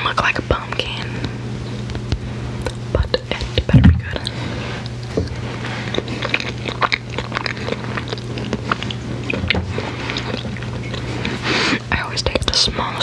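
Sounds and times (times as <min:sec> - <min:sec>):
biting and chewing candy: 0:01.0 - 0:12.9.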